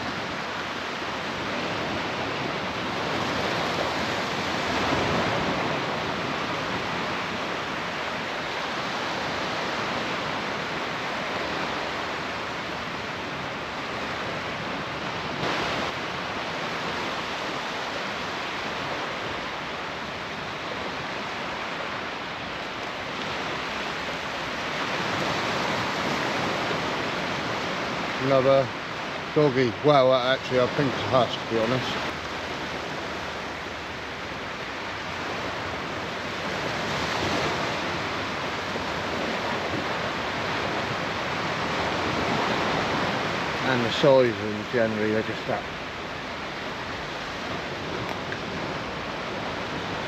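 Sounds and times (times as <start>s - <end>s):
surf breaking on sand beach: 0.0s - 50.0s.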